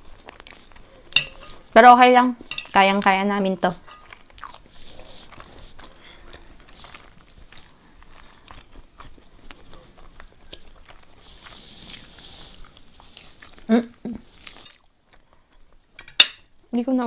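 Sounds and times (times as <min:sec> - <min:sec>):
person chewing food: 0:00.0 - 0:01.8, 0:03.8 - 0:15.9.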